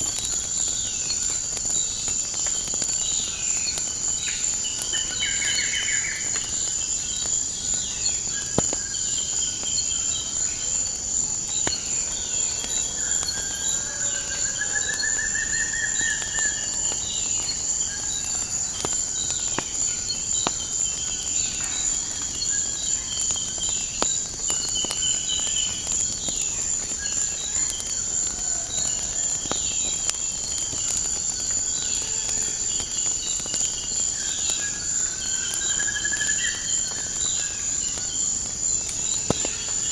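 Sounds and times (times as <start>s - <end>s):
insect chorus: 0.0s - 39.9s
wood fire popping: 0.0s - 39.9s.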